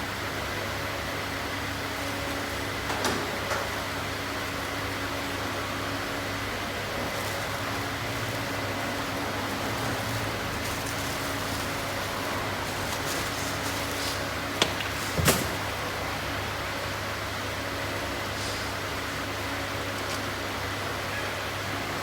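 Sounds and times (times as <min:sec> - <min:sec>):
mechanical hum: 0:00.0 - 0:22.0.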